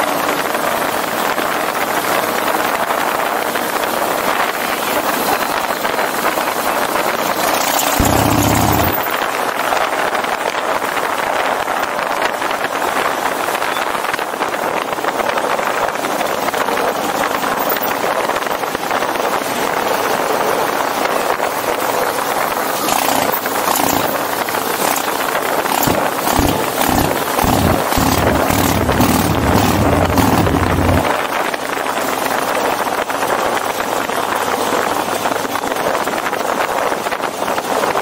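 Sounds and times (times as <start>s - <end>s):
motorcycle engines: 0.0s - 36.5s
wind and road noise: 0.0s - 38.0s.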